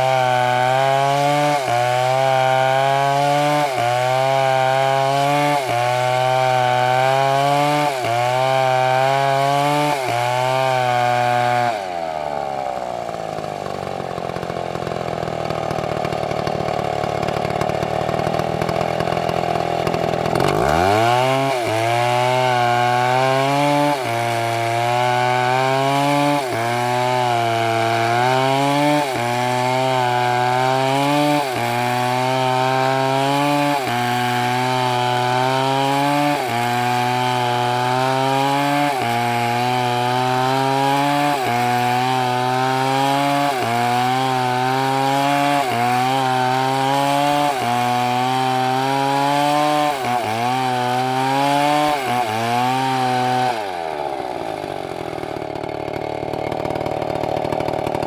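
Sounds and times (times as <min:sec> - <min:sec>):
chainsaw cutting wood: 0:00.0 - 0:58.0
chainsaw revving and idling: 0:00.0 - 0:58.0.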